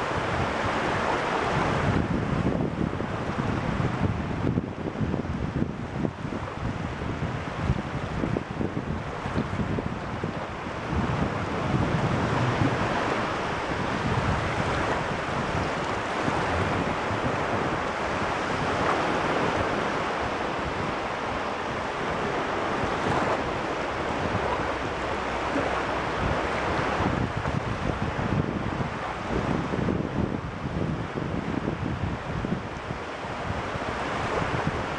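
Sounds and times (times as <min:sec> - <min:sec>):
waves washing on shore: 0:00.0 - 0:34.9
wind rumbling on microphone: 0:00.0 - 0:34.9.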